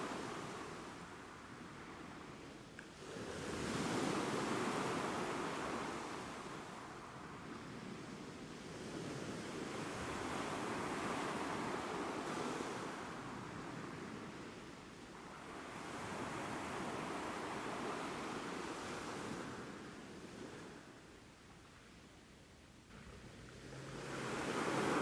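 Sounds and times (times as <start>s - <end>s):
ocean waves breaking on shore: 0.0s - 21.2s, 22.9s - 25.0s.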